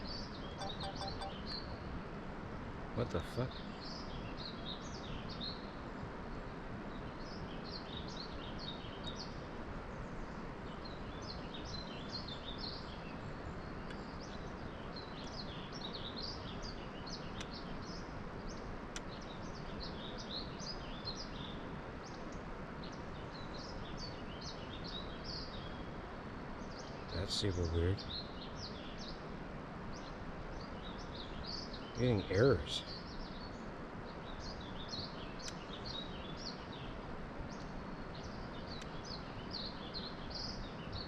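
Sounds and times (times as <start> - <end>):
small birds chirping: 0.0 - 2.0, 3.0 - 41.0
outdoor background noise: 0.0 - 41.0.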